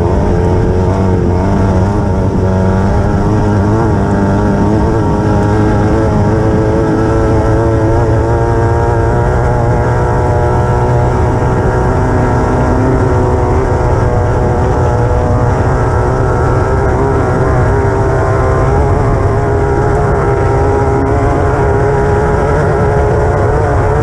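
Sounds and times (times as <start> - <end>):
buggy engine running hard: 0.0 - 24.0
ground noise: 0.0 - 24.0
wind rush: 0.0 - 24.0.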